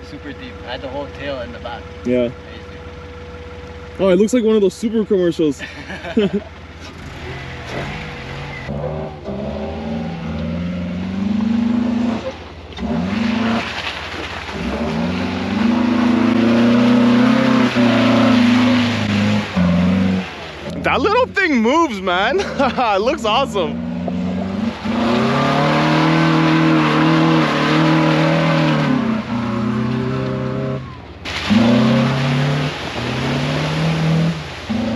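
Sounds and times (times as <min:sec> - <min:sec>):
car engine revving hard: 0:06.1 - 0:34.9.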